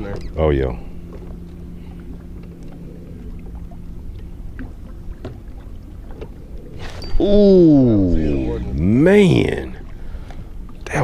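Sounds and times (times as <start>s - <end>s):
faint steady hum: 0.0s - 11.0s
wind and water against hull: 0.0s - 11.0s.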